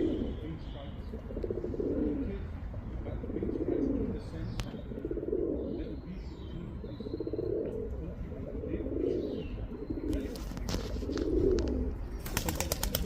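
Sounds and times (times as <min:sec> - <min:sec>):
pigeon cooing: 0:00.0 - 0:13.0.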